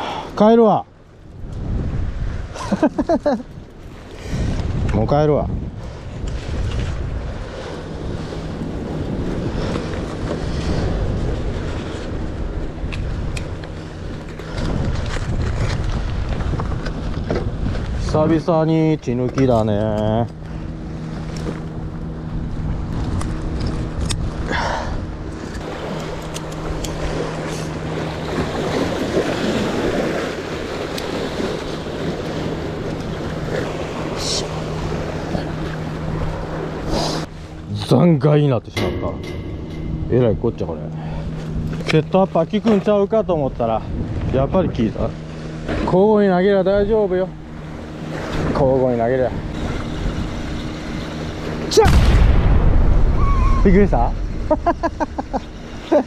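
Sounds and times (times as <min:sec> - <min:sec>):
sea waves against breakwater: 0:00.0 - 0:56.0
wind buffeting microphone: 0:01.0 - 0:02.8, 0:03.4 - 0:55.9.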